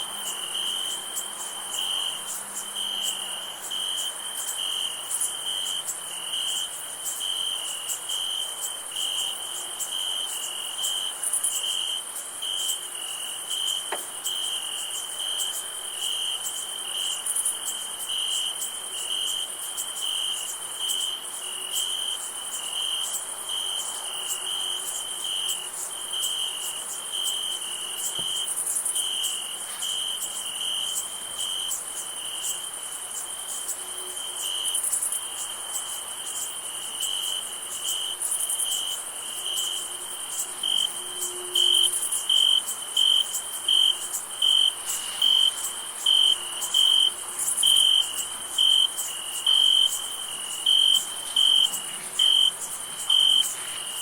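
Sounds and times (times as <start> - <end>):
crickets chirping: 0.0 - 54.0
high insect trill: 0.0 - 54.0.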